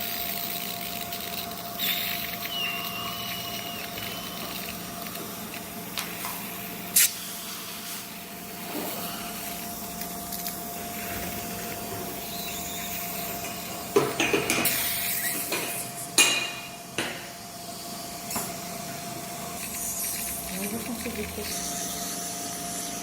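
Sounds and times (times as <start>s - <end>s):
dental suction hissing: 0.0s - 16.2s, 17.3s - 23.0s.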